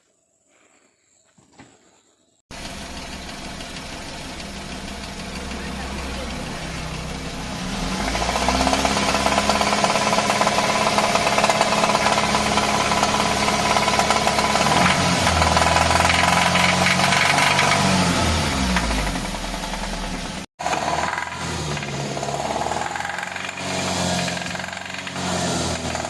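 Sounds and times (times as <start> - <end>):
engine running with knocking rattle: 2.5 - 26.0.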